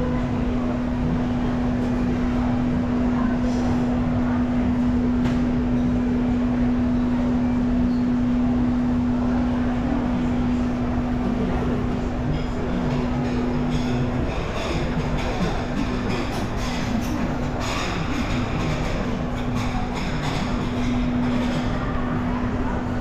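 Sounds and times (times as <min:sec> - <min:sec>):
shopping mall background noise: 0:00.0 - 0:23.0.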